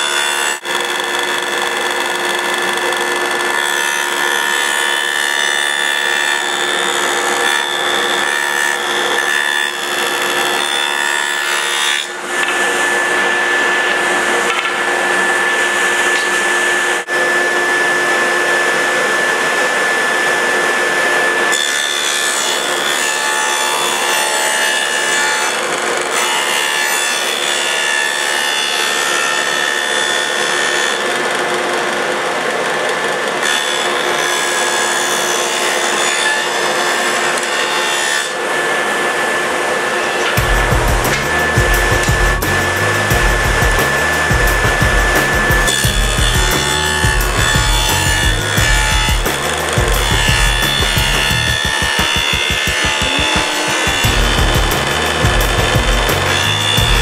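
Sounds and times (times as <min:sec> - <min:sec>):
power tool cutting wood: 0:00.0 - 0:57.0.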